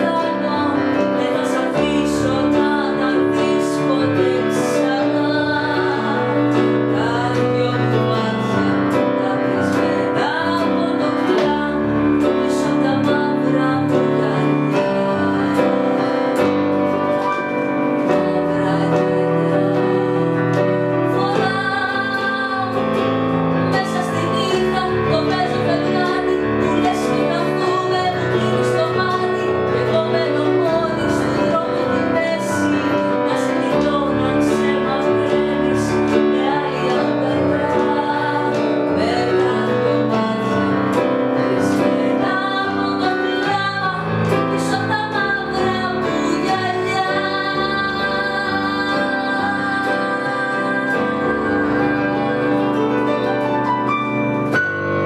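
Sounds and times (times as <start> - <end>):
woman singing: 0.0 - 53.6
electronic keyboard accompaniment: 0.0 - 55.0.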